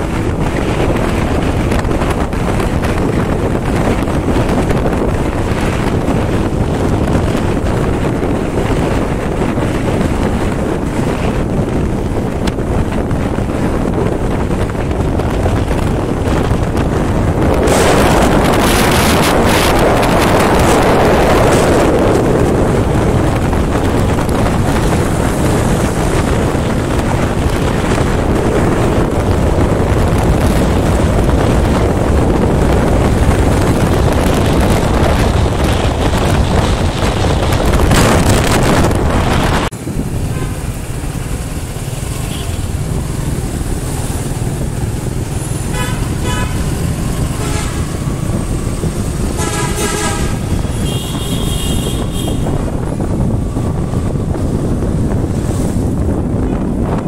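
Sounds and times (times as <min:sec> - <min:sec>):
motorcycle engine: 0:00.0 - 0:57.0
road noise: 0:00.0 - 0:57.0
wind rushing over microphone: 0:00.0 - 0:57.0.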